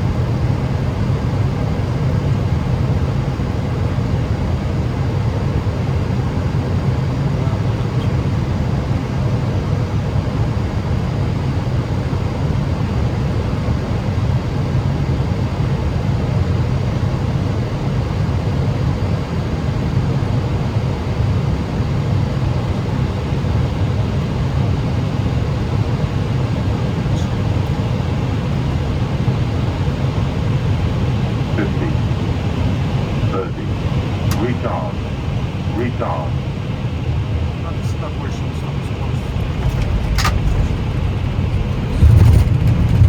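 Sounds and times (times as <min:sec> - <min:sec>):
aircraft engines rumbling: 0:00.0 - 0:43.0.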